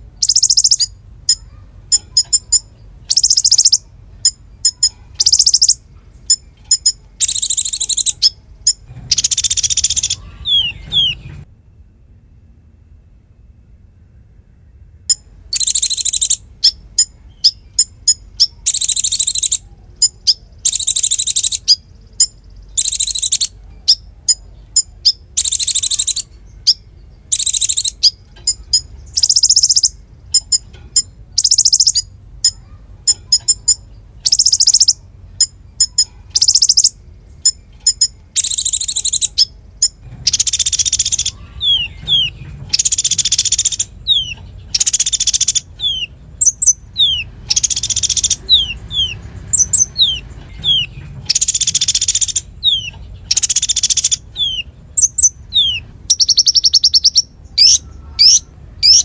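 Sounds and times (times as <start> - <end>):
songbird buzzy rapid trills: 0.0 - 11.4, 15.1 - 59.0
bird sharp chips: 0.2 - 11.4, 15.6 - 59.0.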